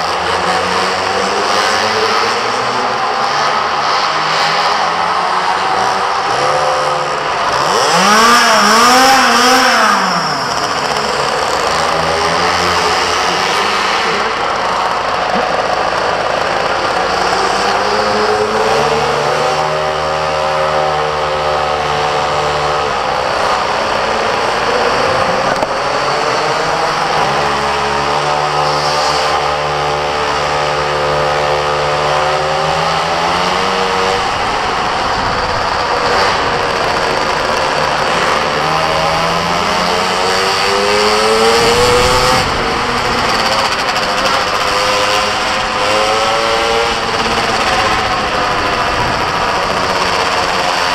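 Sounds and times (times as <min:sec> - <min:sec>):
small engine revving: 0:00.0 - 0:50.9.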